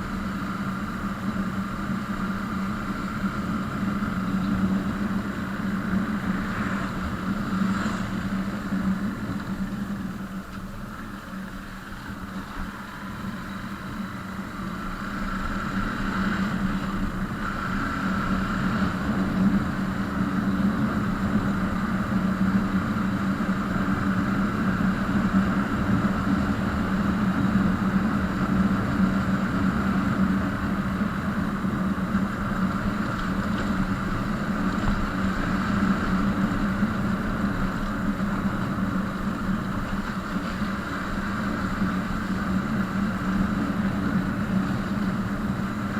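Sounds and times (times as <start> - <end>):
motorcycle engine running: 0.0 - 45.9
road noise: 0.0 - 45.9.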